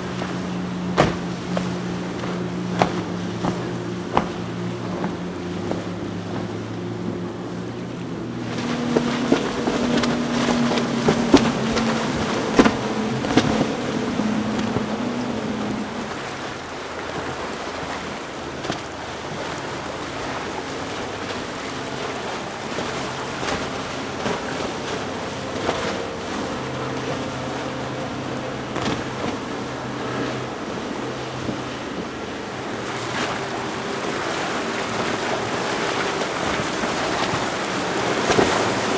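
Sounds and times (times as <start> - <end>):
boat engine drone: 0.0 - 38.9
hull slapping water: 0.0 - 38.9
outboard boat passing: 0.0 - 38.9
water wash: 0.0 - 38.9.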